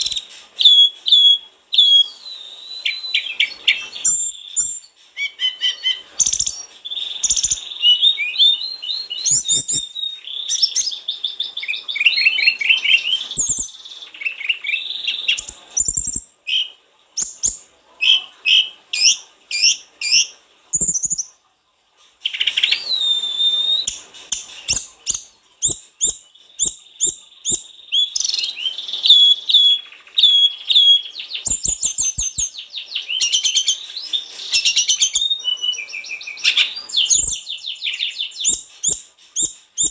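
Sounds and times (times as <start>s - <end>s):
songbird singing: 0.0s - 21.4s, 22.2s - 39.9s.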